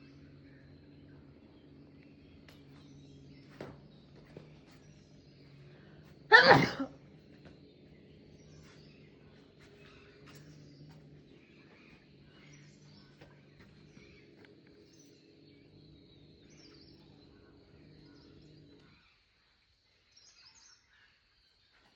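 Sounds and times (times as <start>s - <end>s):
low steady hum: 0.0s - 20.0s
birds chirping: 0.0s - 21.9s.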